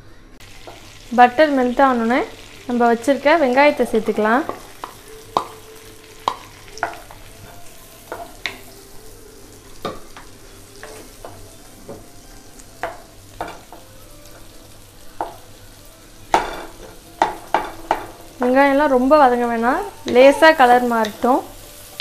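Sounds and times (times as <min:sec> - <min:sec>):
onions sizzling in butter: 0:00.4 - 0:22.0.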